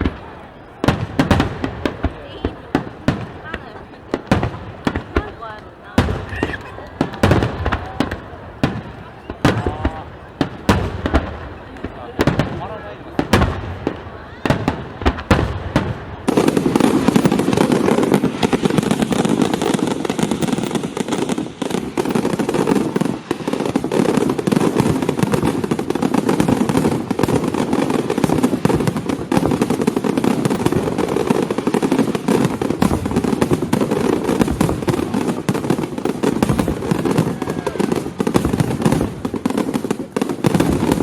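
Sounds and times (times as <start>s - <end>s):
crackling firework barrage: 0.0s - 41.0s
firework bangs: 0.0s - 41.0s.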